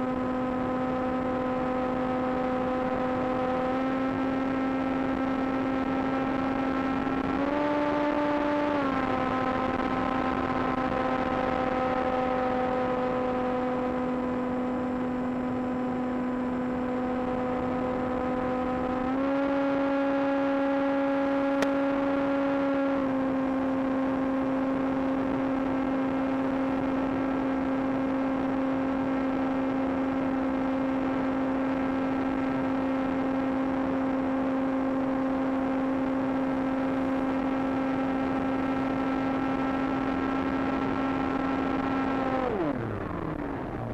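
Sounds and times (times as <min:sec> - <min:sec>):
model plane motor droning: 0:00.0 - 0:43.9.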